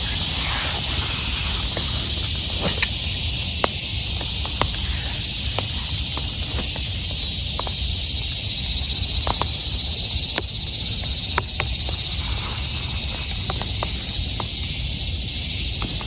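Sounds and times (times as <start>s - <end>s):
low constant rumble: 0.0s - 16.0s.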